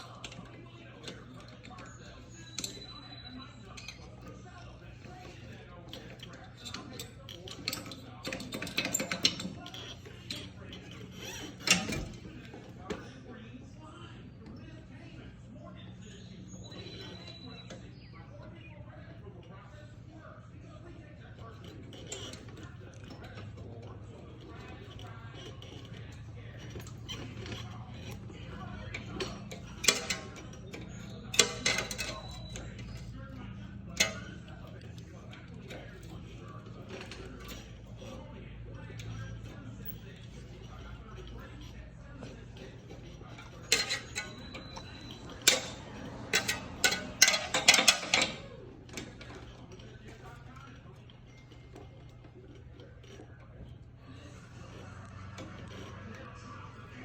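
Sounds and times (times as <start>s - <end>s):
tools clanking against metal: 0.0s - 13.3s, 16.0s - 18.1s, 21.2s - 57.0s.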